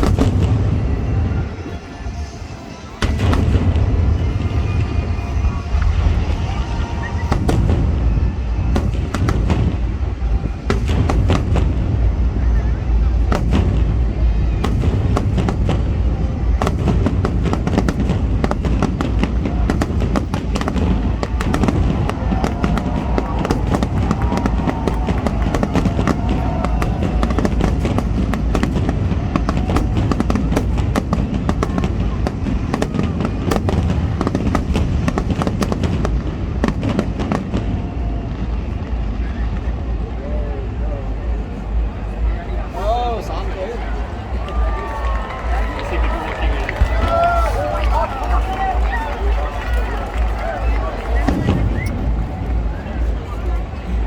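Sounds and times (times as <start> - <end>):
deep rumble: 0.0 - 54.0
fireworks bangs and crackles: 0.0 - 54.0.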